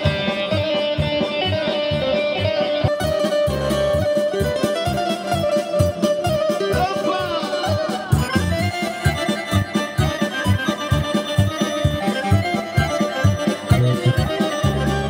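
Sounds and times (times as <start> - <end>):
electronic keyboard dance music: 2.0 - 15.0.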